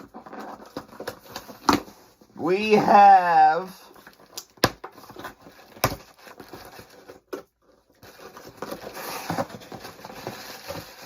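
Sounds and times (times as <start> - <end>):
package rustling and scratching: 0.0 - 11.0.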